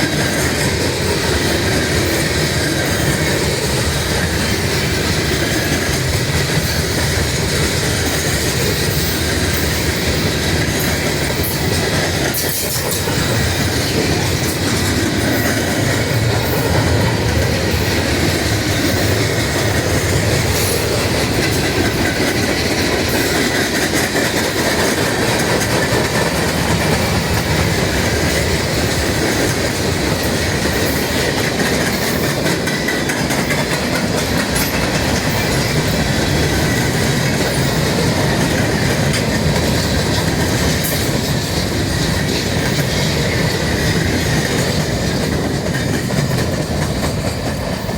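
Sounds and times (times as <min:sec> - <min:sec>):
train cars rumbling past: 0:00.0 - 0:47.9
wheels clicking over rails: 0:00.0 - 0:47.9.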